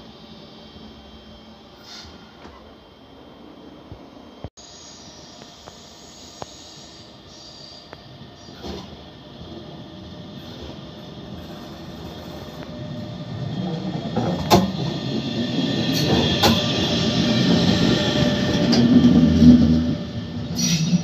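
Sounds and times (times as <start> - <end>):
train moving on tracks: 0.0 - 21.0.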